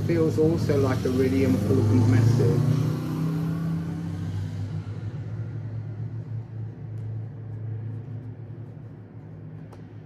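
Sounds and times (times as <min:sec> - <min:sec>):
low rumbling hum: 0:00.0 - 0:10.0.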